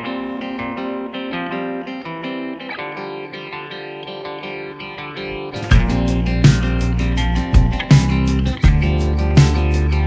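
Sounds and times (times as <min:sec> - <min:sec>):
plucked and strummed guitar music: 0:00.0 - 0:10.0.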